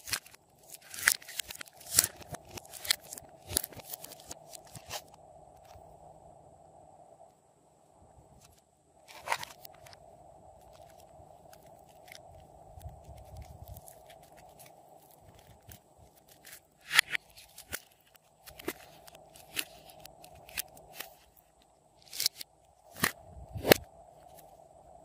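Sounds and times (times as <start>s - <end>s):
plastic palette clicks and crackles: 0.0s - 5.8s, 9.1s - 10.0s, 10.6s - 24.5s.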